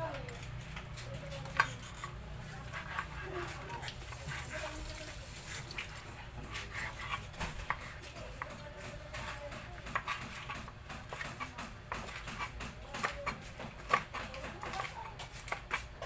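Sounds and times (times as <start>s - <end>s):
knife cutting on plastic board: 1.2s - 16.0s.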